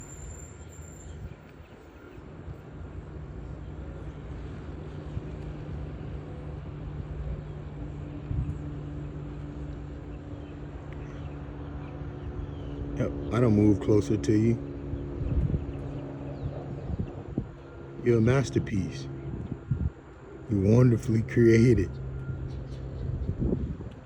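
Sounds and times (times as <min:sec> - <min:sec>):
low engine hum: 0:00.0 - 0:24.0
outdoor background noise: 0:00.0 - 0:24.0.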